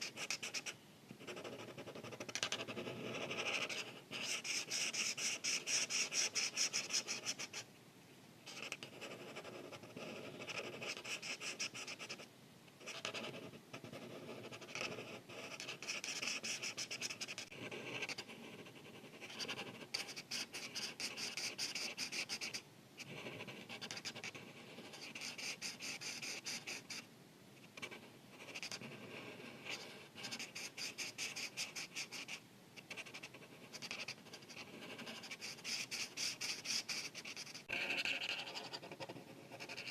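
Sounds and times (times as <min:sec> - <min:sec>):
marker scratching on paper: 0:00.0 - 0:07.6, 0:08.5 - 0:12.2, 0:12.8 - 0:27.0, 0:27.7 - 0:39.9.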